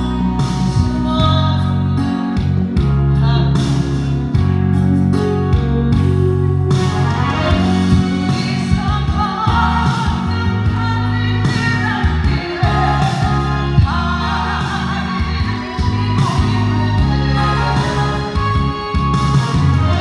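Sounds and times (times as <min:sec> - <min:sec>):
instrumental backing music: 0:00.0 - 0:20.0
person singing a ballad: 0:00.0 - 0:20.0.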